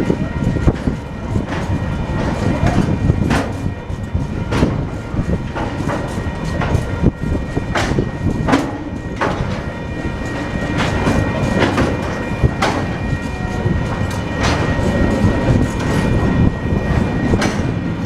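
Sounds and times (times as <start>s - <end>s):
freight train rolling past: 0.0s - 18.0s
wheels clacking over rail joints: 0.0s - 18.0s.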